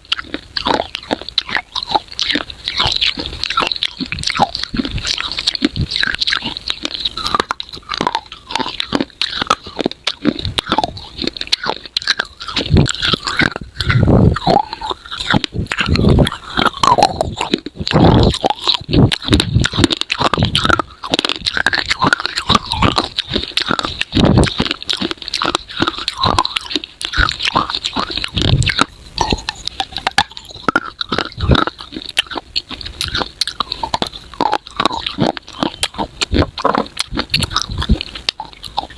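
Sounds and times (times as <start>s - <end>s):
crunching dry clay: 0.0s - 38.9s
grinding chews: 0.0s - 38.9s.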